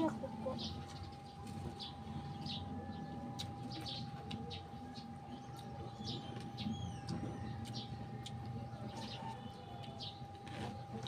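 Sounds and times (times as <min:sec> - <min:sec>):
faint hum: 0:00.0 - 0:11.0
small birds chirping: 0:00.0 - 0:11.0.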